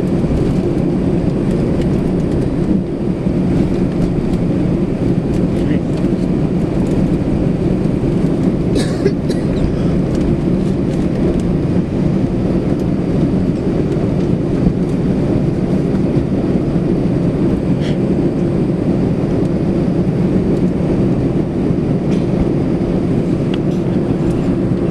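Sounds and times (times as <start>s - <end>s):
airplane cabin rumble and hum: 0.0s - 24.9s.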